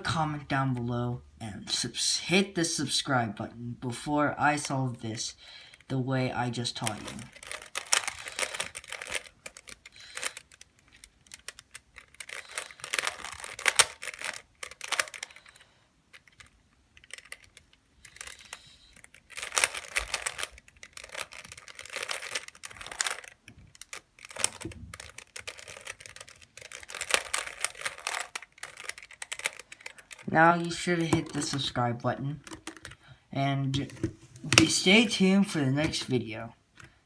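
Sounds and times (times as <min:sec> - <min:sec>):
puzzle cube plastic clicking: 0:06.6 - 0:33.1, 0:33.7 - 0:37.0.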